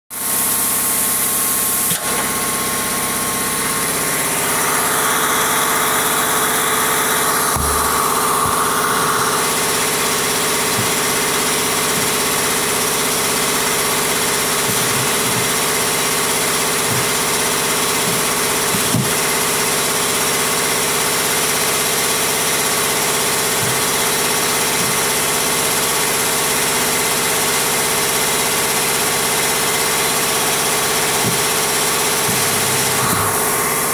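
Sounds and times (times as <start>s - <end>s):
saw machine drone: 1.8s - 27.1s, 29.6s - 33.9s.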